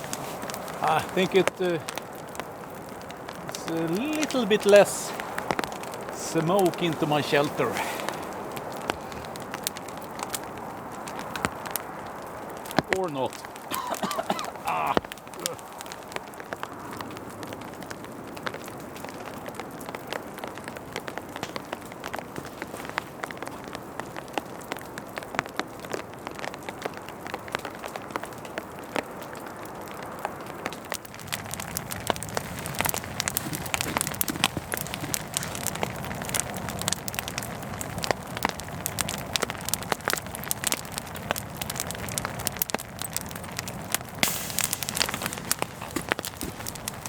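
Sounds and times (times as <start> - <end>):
campfire crackling and popping: 0.0 - 47.0
rain on a tarp: 0.0 - 47.0.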